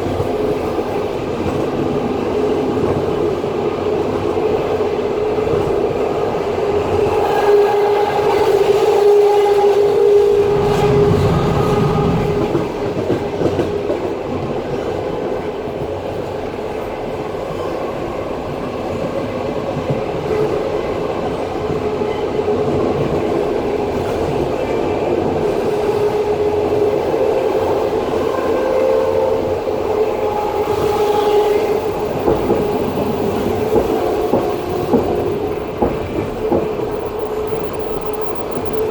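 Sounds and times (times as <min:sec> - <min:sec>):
train wheel-on-rail rumble: 0:00.0 - 0:38.9.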